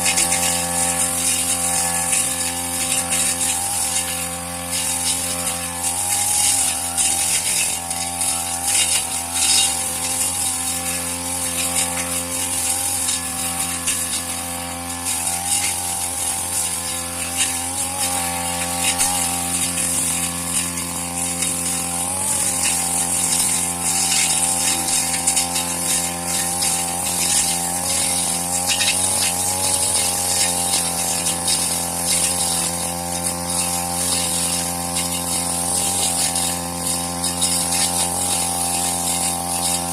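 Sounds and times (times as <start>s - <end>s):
brush cutter engine running: 0.0s - 39.9s
cutting head hiss: 0.0s - 39.9s.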